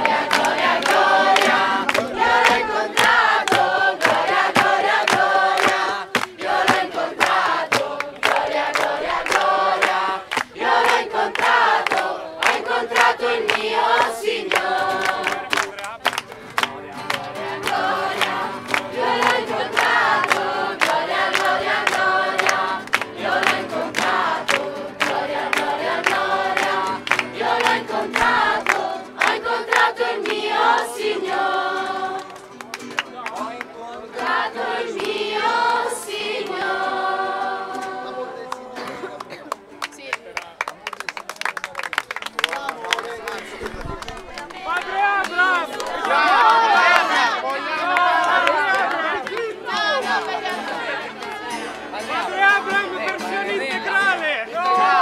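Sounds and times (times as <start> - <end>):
crowd singing in chorus: 0.0 - 32.8, 33.8 - 39.5, 43.2 - 55.0
acoustic guitar: 0.0 - 40.3, 43.1 - 55.0
hand-clapping in time: 0.0 - 55.0.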